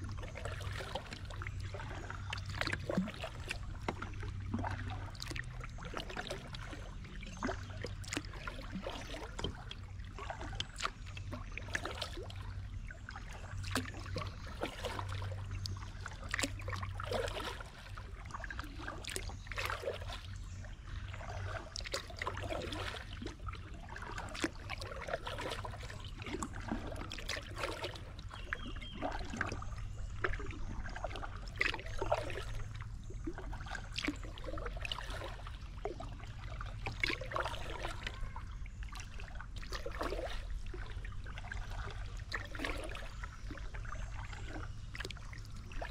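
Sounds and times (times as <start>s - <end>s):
paddle splashes and drips: 0.0s - 45.9s.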